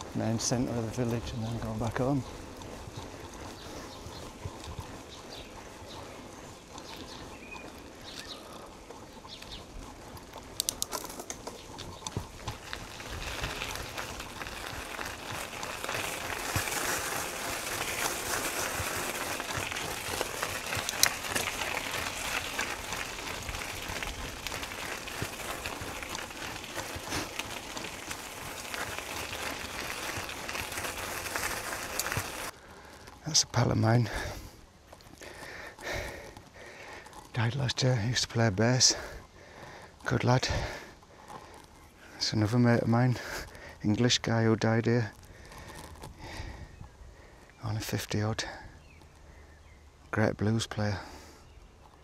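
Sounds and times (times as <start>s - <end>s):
bicycle tyres crunching on gravel: 0.0s - 52.0s.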